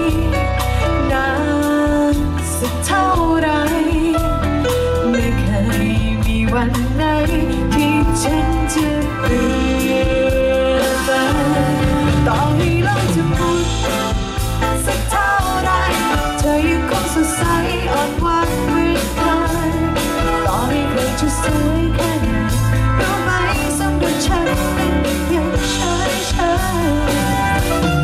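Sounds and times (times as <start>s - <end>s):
live band playing pop-rock: 0.0s - 28.0s
steady drum beat: 0.0s - 28.0s
sustained bass: 0.0s - 28.0s
wavering melodic lead line: 0.0s - 28.0s.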